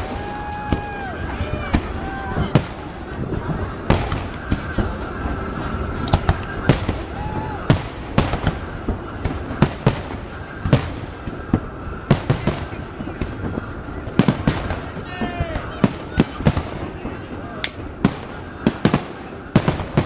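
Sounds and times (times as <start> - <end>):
continuous background din: 0.0 - 20.0
fireworks exploding: 0.0 - 20.0.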